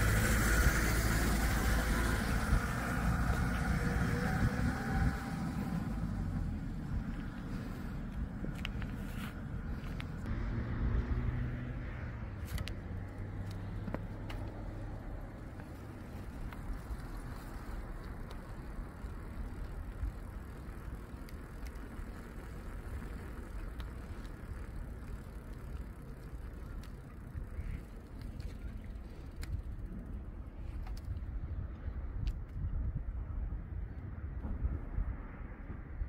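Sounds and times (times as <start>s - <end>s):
wind and ride rumble: 0.0s - 36.0s.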